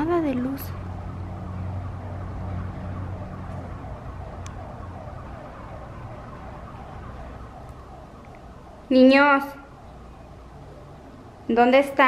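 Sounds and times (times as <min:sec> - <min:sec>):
distant siren wailing: 0:00.0 - 0:12.0
street traffic rumble: 0:00.0 - 0:12.0.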